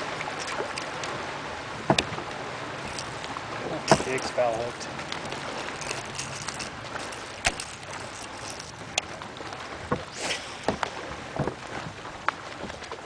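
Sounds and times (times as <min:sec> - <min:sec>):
water splashing against boat: 0:00.0 - 0:13.0
wind: 0:00.0 - 0:13.0.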